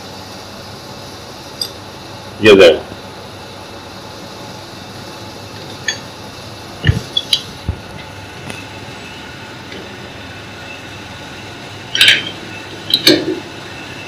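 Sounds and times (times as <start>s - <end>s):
workshop background noise: 0.0s - 14.0s.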